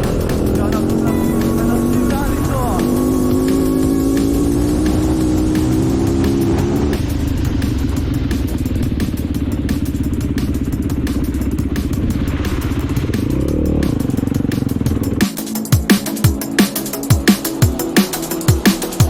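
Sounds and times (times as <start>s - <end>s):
electronic music with sharp beat: 0.0s - 19.0s
off-road vehicle engine running: 0.0s - 19.0s.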